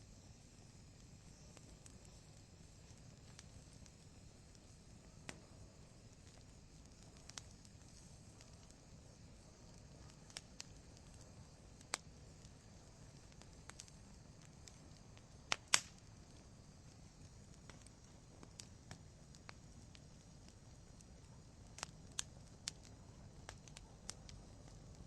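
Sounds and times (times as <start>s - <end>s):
hiss of flames: 0.0s - 25.0s
wood fire crackling and popping: 0.1s - 25.0s.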